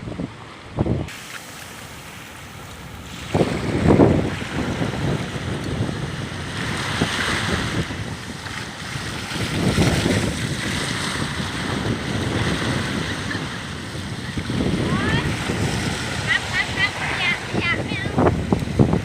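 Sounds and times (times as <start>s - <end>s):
surf washing onto beach: 0.0s - 19.0s
wind buffeting microphone: 0.0s - 19.0s.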